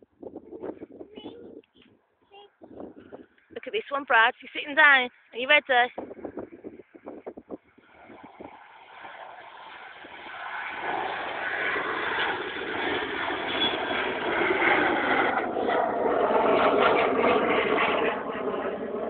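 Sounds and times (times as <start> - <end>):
jet airliner engine noise: 2.6 - 19.0.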